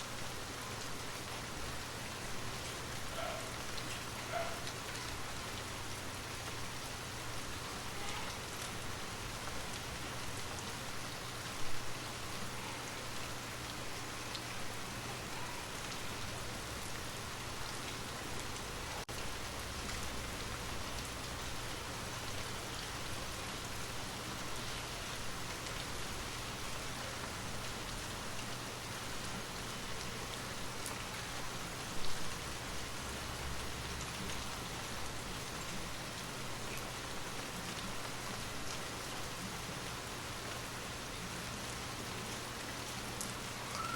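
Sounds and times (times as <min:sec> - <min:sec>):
steady rain on a surface: 0:00.0 - 0:43.9.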